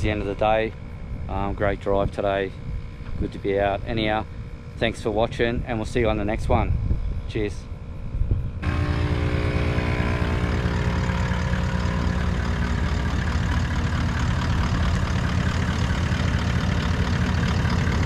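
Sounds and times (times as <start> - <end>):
air compressor droning: 0.0 - 18.0.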